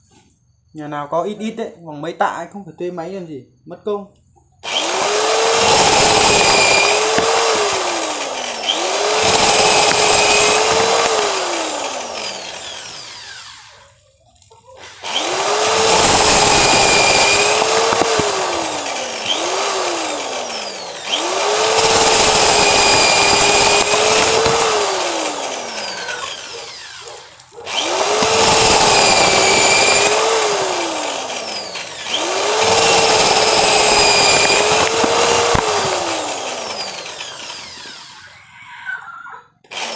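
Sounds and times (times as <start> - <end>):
cordless drill motor whine: 4.6 - 14.0, 14.8 - 38.5, 39.6 - 39.9.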